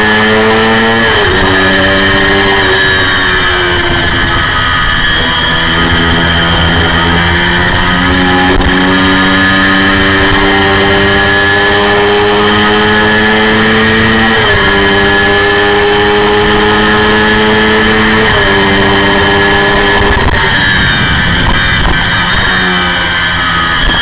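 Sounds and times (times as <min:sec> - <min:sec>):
motorcycle engine screaming at high revs: 0:00.0 - 0:24.0.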